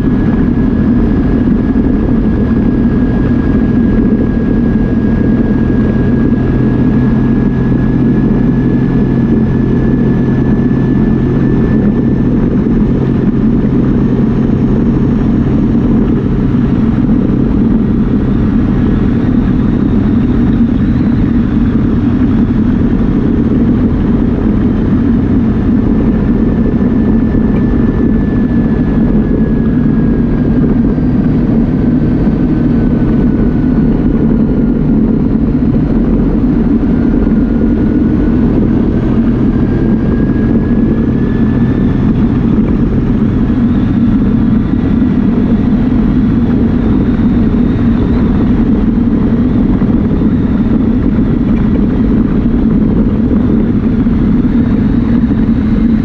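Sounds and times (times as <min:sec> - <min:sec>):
faint whine: 0:00.0 - 0:56.0
single-cylinder engine running: 0:00.0 - 0:56.0.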